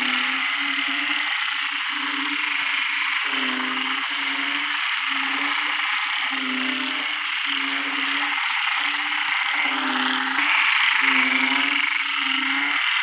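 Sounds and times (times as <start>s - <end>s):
frogs croaking: 0.0s - 13.0s
steady high hiss: 0.0s - 13.0s.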